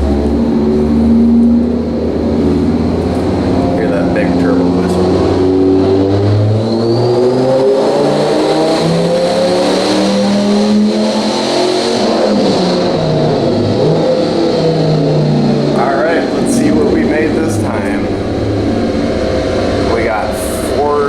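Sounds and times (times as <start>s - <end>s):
high turbo whine: 0.0s - 21.0s
truck engine running hard: 0.0s - 21.0s.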